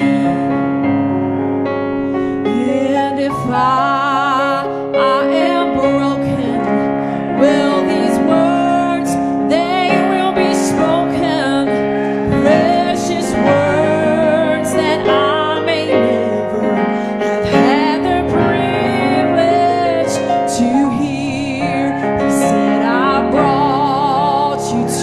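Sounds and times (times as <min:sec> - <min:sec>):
person singing with vibrato: 0:00.0 - 0:00.9, 0:02.0 - 0:25.0
piano accompaniment: 0:00.0 - 0:25.0.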